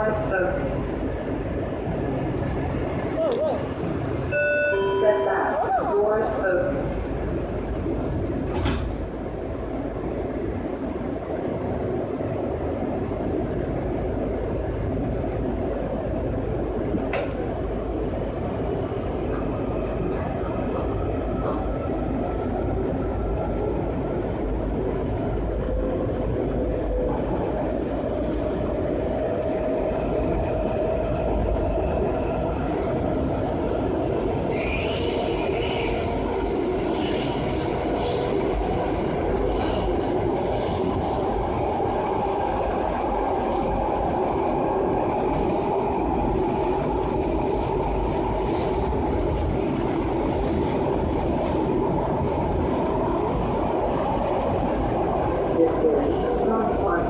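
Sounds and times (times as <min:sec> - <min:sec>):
train car rumble: 0:00.0 - 0:57.0.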